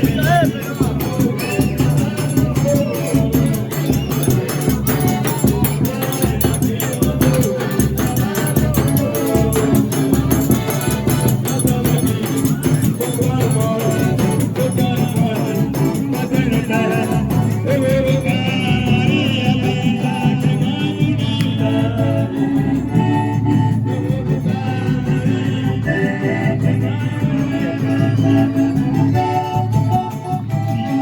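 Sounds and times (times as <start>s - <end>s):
fast percussion beat: 0.0s - 31.0s.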